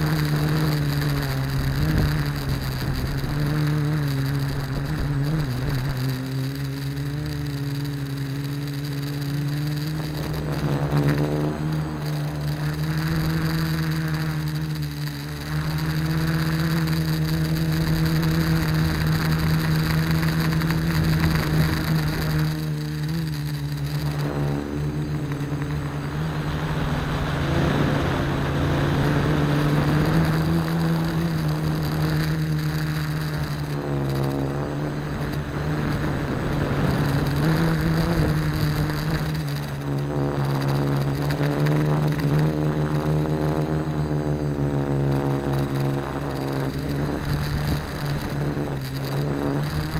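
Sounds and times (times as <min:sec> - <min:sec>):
quadcopter motors buzzing: 0:00.0 - 0:49.9.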